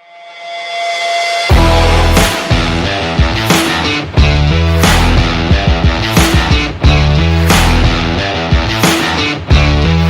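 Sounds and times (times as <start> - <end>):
distorted rock guitars: 1.4 - 10.0
steady drum beat: 1.5 - 10.0.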